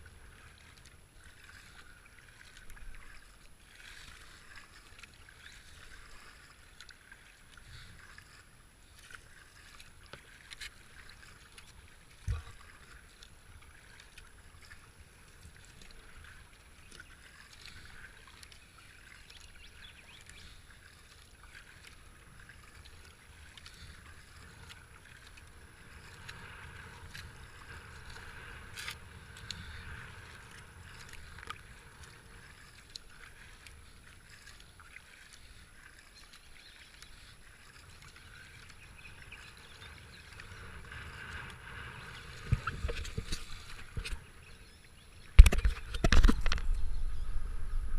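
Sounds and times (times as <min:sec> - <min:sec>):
kayak paddle dipping: 0:00.0 - 0:47.9
water washing along hull: 0:00.0 - 0:47.9.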